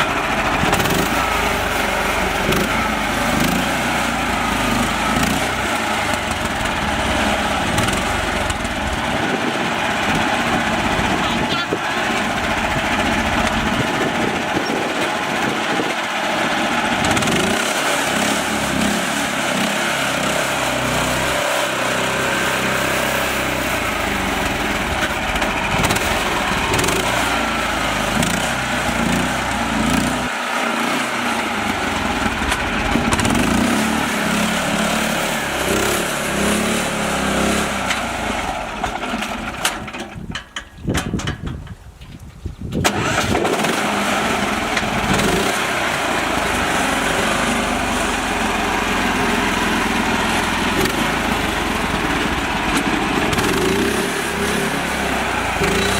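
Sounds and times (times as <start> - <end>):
mini-tractor motor running: 0.0 - 55.9.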